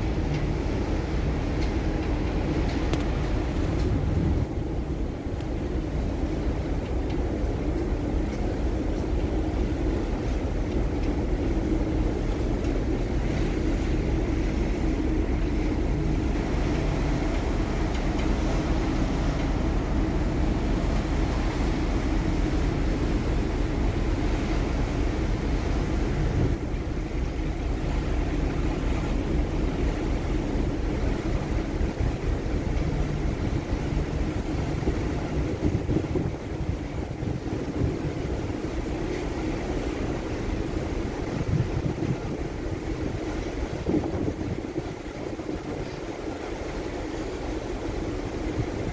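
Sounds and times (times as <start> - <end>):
wind buffeting microphone: 0.0 - 47.0, 47.8 - 48.9
ship engines rumbling: 0.0 - 48.9.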